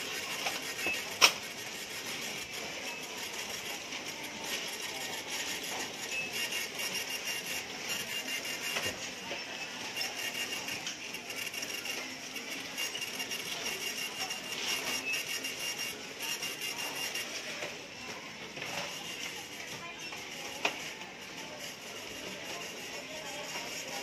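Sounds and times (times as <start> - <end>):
busy shop background noise: 0.0 - 24.0.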